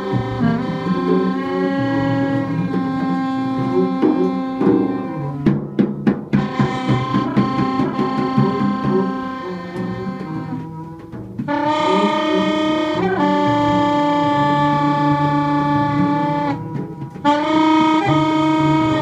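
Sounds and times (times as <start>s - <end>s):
reed horn long tones: 0.0s - 5.6s, 6.3s - 19.0s
double bass: 0.0s - 19.0s
drums: 0.0s - 19.0s.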